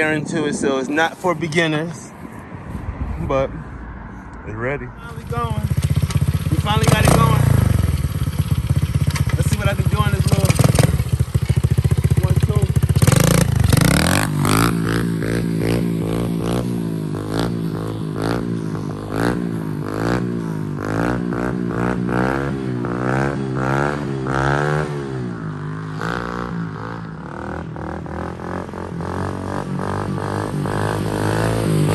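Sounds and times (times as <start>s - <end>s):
dirt bike engine revving: 5.0s - 31.9s.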